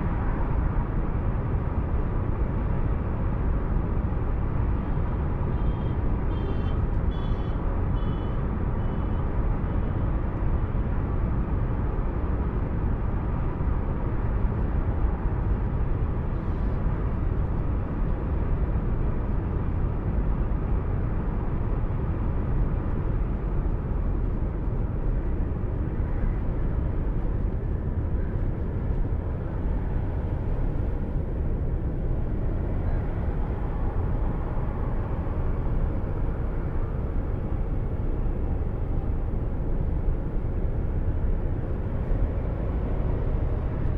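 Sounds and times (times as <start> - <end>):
car road and engine noise: 0.0 - 43.9.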